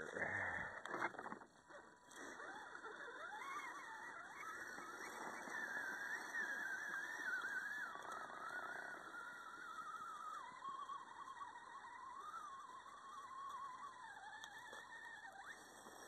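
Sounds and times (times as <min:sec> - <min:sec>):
toy truck motor whining: 0:00.0 - 0:16.0.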